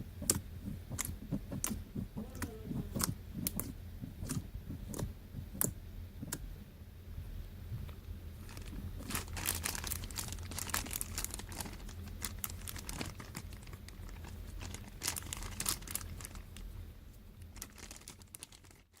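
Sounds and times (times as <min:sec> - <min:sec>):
room heater hum: 0:00.0 - 0:19.0.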